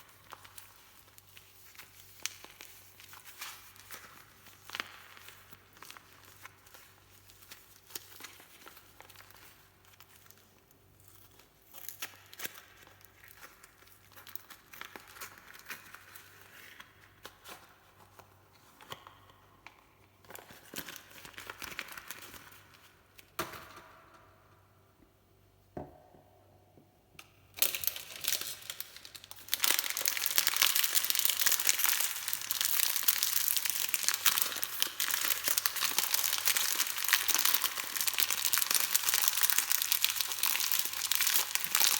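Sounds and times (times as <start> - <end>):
packaging crinkling and tearing: 0.0 - 17.4, 18.9 - 23.2, 27.6 - 41.9.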